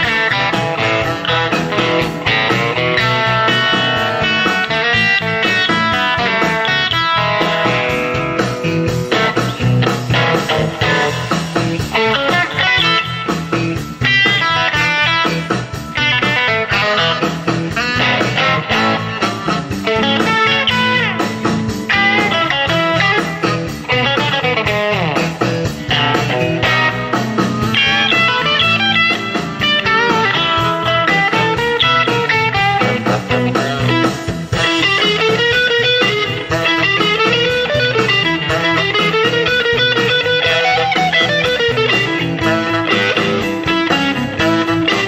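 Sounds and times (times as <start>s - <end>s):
bass line: 0.0s - 45.0s
electric guitar lead lines: 0.0s - 45.0s.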